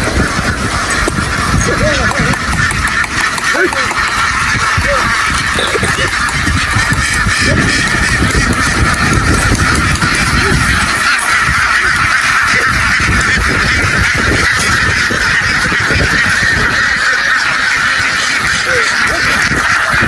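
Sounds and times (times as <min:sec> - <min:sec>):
flock of ducks quacking: 0:00.0 - 0:20.0.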